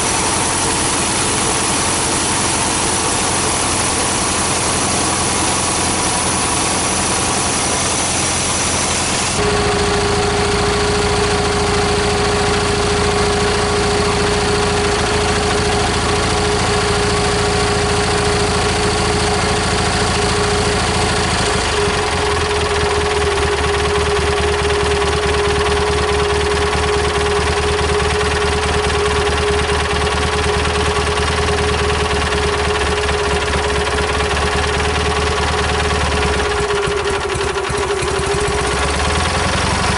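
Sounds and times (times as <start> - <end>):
steady whine: 0.0 - 39.6
garden tractor engine running: 0.0 - 39.9.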